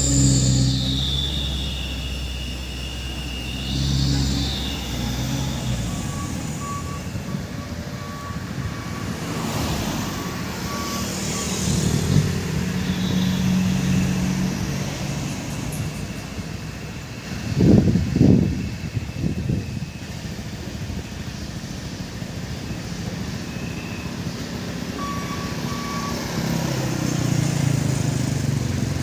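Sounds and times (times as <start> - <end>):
reversing alarm beeping: 0.0 - 28.8
truck engine running: 0.0 - 29.0.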